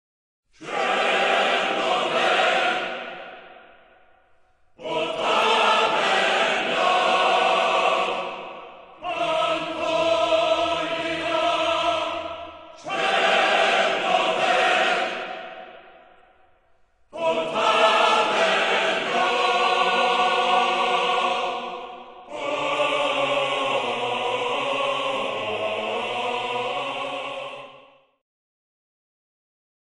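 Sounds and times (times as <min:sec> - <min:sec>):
choir singing sustained chords: 0:00.6 - 0:28.2.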